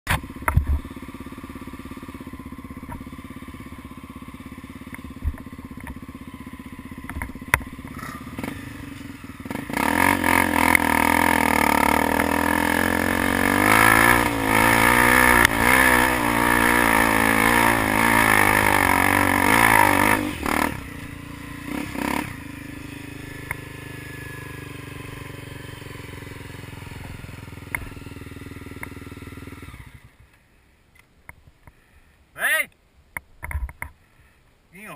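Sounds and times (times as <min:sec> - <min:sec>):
motorcycle engine revving: 0:00.1 - 0:30.4.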